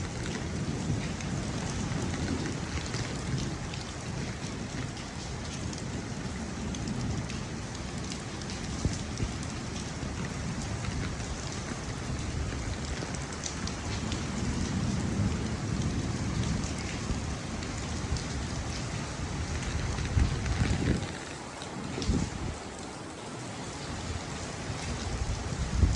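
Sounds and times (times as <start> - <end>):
heavy rain falling: 0.0 - 25.9
raindrops ticking on surfaces: 0.0 - 25.9.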